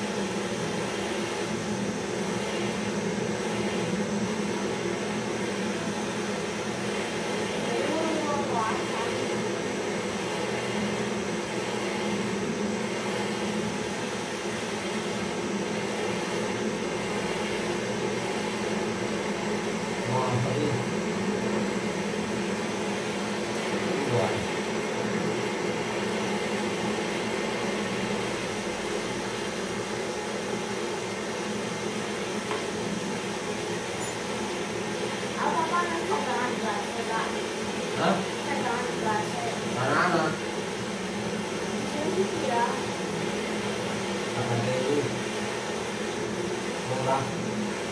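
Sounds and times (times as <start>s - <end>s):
blowtorch hissing: 0.0s - 47.9s.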